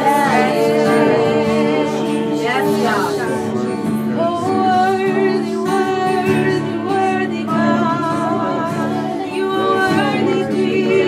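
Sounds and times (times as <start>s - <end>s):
voices singing wordlessly: 0.0s - 11.0s.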